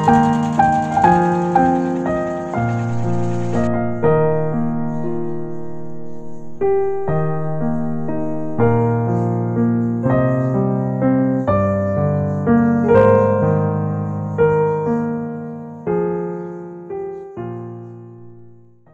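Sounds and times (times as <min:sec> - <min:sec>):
slow piano music: 0:00.0 - 0:18.9.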